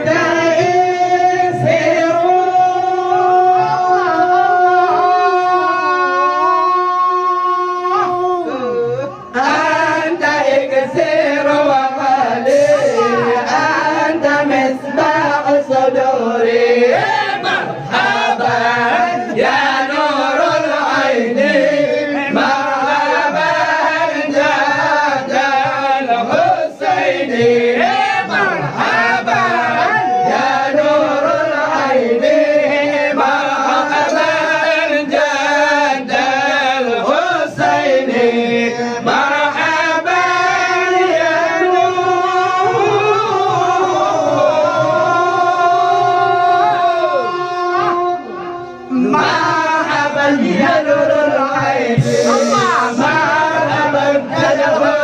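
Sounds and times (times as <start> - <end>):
men singing together: 0.0 - 55.0.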